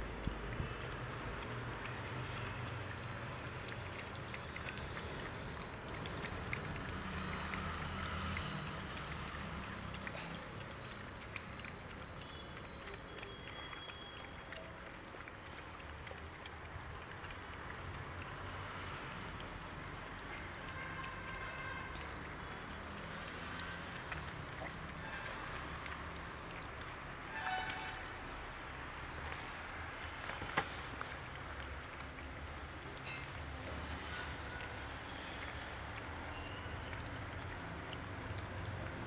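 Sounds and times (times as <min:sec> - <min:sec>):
puppies lapping milk: 0:00.0 - 0:39.0.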